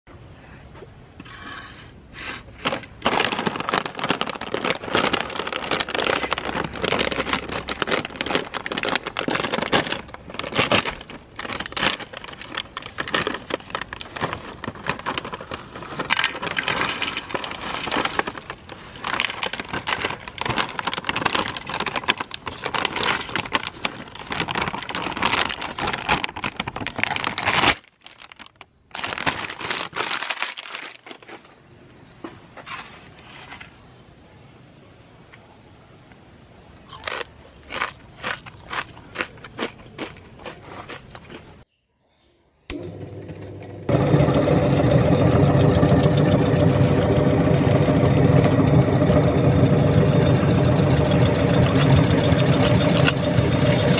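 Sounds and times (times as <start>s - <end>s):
chips crunching in a meat grinder: 3.0s - 31.6s, 36.9s - 41.5s, 42.7s - 53.9s.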